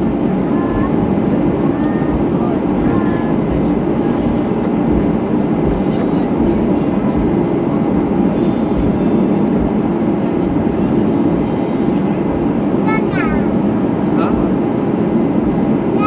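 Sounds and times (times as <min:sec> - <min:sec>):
jet engines roaring in cabin: 0:00.0 - 0:16.0.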